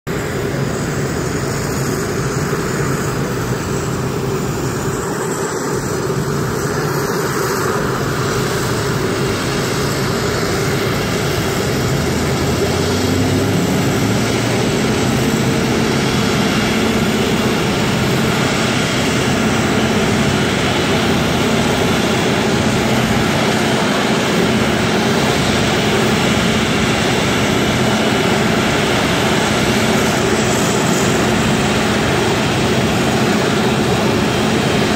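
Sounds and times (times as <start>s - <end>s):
airliner engines taxiing: 0.1s - 34.9s
fire truck engines running: 0.1s - 34.9s.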